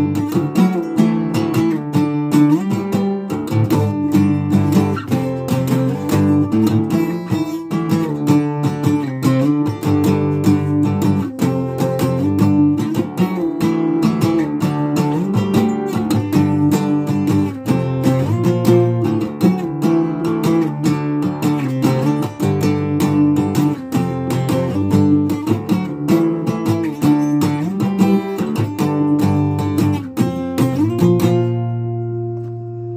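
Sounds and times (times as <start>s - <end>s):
acoustic guitar strumming: 0.0s - 32.9s.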